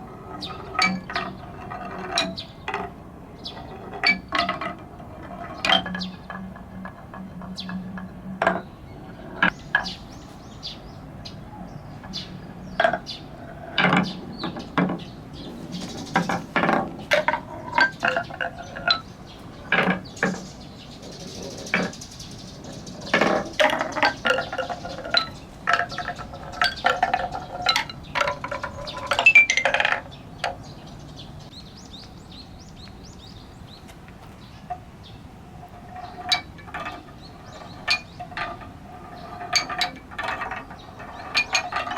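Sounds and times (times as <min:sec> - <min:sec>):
balls clacking down wooden run: 0:00.0 - 0:10.0, 0:12.0 - 0:30.7, 0:35.6 - 0:41.9.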